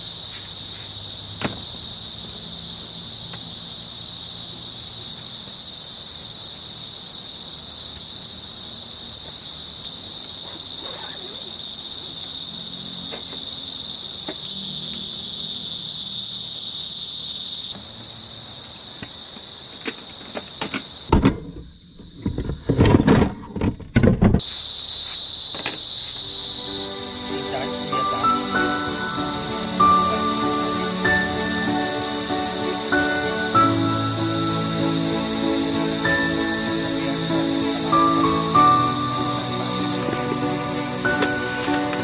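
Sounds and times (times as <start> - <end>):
insects chirring: 0.0 - 23.8, 24.4 - 42.0.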